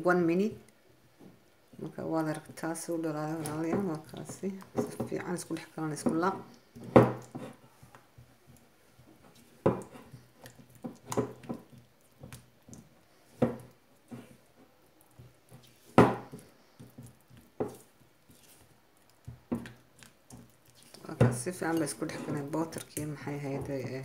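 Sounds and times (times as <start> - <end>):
spatula knocking and scraping glass bowl: 2.2 - 14.6, 15.2 - 24.0.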